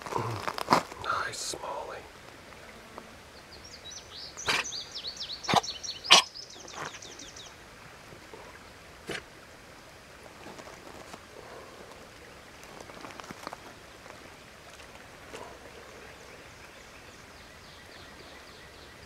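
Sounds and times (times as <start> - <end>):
songbird singing: 0.0 - 8.8, 10.6 - 19.0
outdoor ambience: 0.0 - 19.0.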